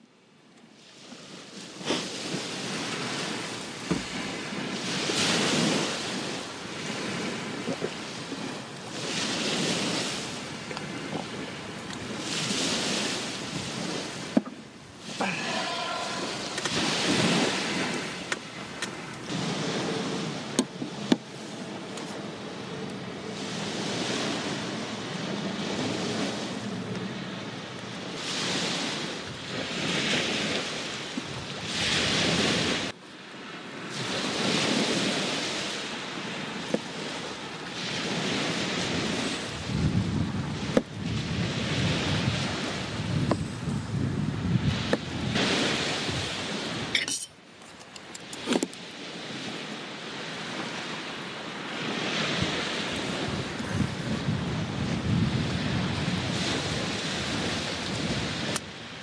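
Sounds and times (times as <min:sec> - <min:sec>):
sea waves washing ashore: 0:00.0 - 0:59.0
wind: 0:00.0 - 0:59.0.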